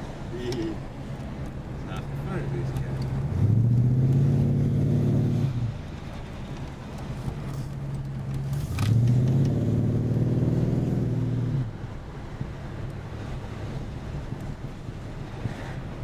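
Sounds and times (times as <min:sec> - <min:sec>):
car engine under throttle: 0:00.0 - 0:16.0.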